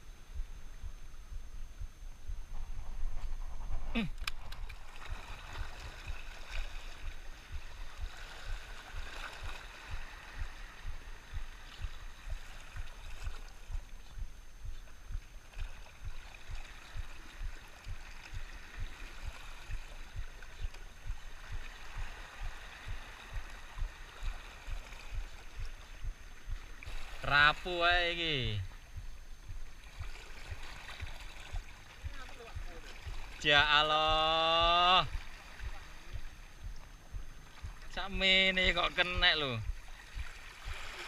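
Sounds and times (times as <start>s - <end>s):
soft low thumps: 0.0s - 41.0s
waves lapping against rocks: 2.5s - 14.0s, 14.8s - 41.0s.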